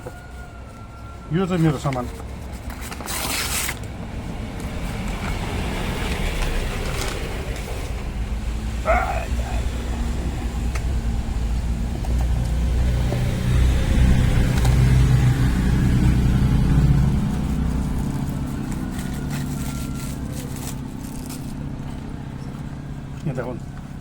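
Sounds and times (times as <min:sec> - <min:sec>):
vehicle engine running: 0:03.7 - 0:24.0.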